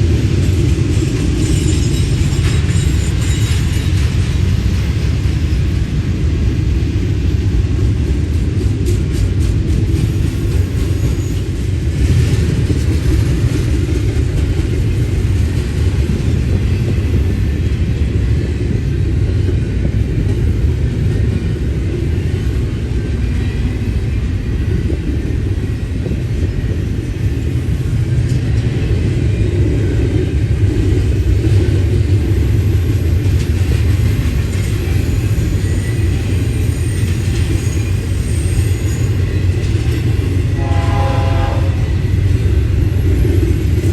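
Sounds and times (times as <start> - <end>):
freight train rumbling: 0.0 - 43.9.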